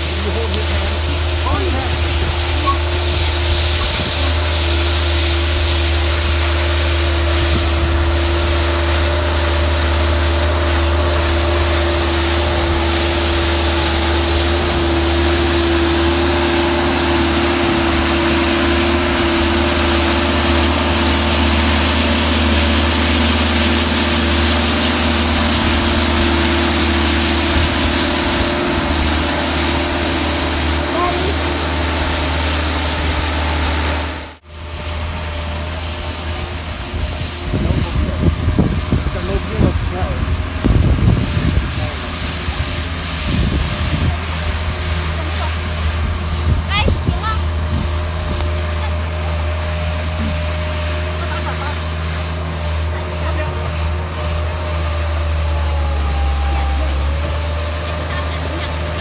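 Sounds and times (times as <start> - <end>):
broom sweeping snow hiss: 0.0 - 59.0
skid-steer loader whining: 0.0 - 59.0.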